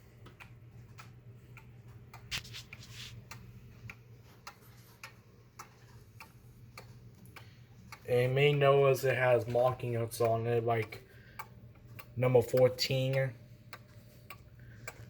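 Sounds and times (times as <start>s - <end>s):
clock ticking: 0.0s - 2.3s, 3.2s - 15.0s.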